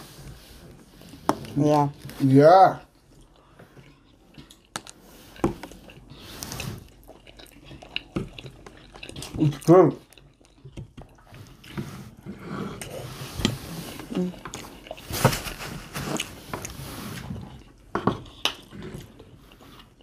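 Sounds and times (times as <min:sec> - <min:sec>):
people chewing food: 0:00.0 - 0:20.0.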